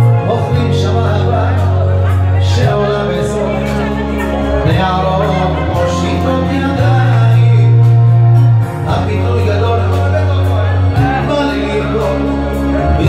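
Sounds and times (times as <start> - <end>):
karaoke backing track: 0.0 - 13.0
man singing into microphone: 0.0 - 13.0.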